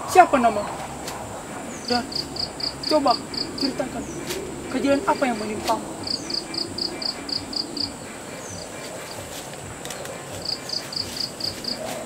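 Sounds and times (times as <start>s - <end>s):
insects chirping: 0.0s - 12.0s
steady high whine: 0.0s - 12.0s.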